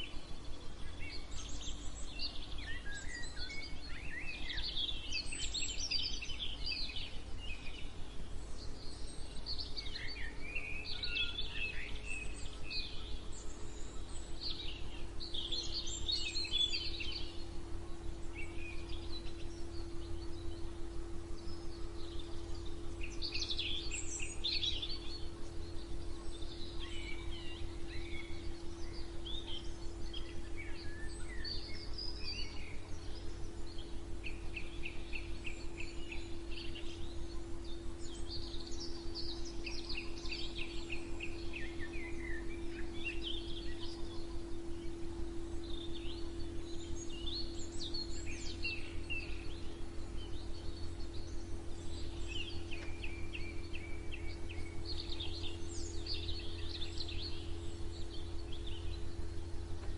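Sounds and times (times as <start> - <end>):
songbirds singing and chirping: 0.0 - 59.9
steady low drone: 0.0 - 59.9.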